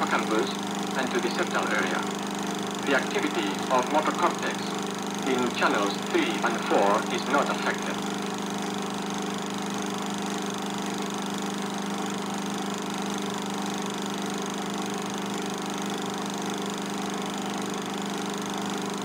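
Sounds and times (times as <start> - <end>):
film projector humming: 0.0 - 19.0.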